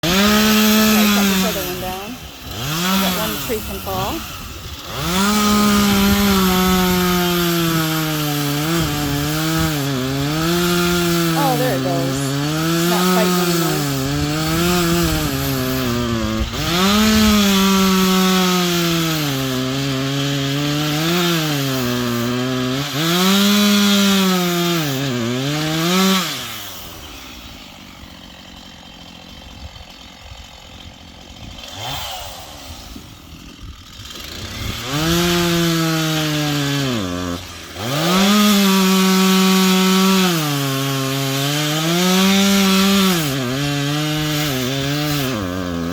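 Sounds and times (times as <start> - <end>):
chainsaw cutting wood: 0.0 - 45.9
chainsaw idling: 0.0 - 45.9.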